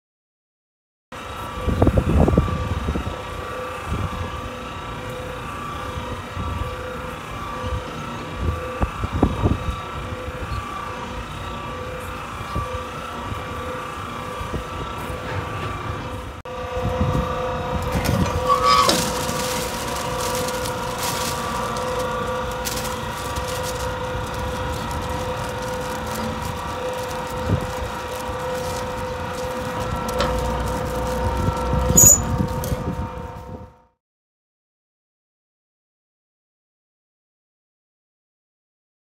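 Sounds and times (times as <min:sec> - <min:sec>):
vehicle engine droning: 0:01.3 - 0:33.8.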